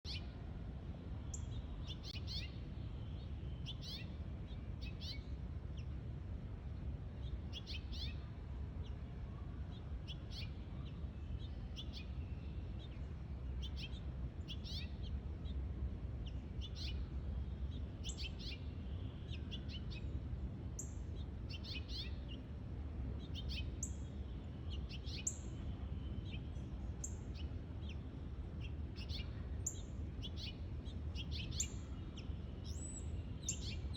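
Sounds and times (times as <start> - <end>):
small songbirds chirping: 0.0 - 33.9.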